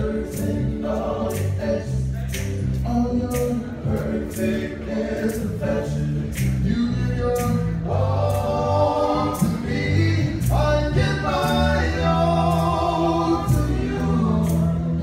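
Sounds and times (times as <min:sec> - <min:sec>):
men singing in close harmony: 0:00.0 - 0:15.0.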